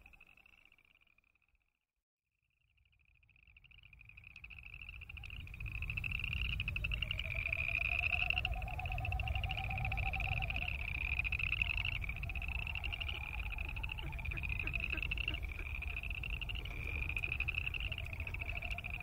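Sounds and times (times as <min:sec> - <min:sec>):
frogs trilling in chorus: 0:03.1 - 0:19.0.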